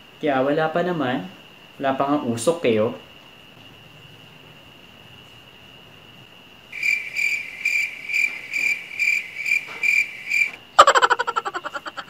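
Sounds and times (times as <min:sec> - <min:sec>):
cricket chirp sound effect: 0:00.0 - 0:12.0.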